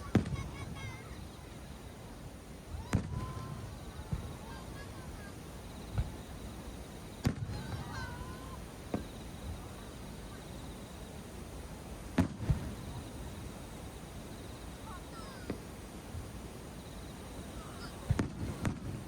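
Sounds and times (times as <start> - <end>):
fireworks bursting with bangs: 0.0 - 19.0.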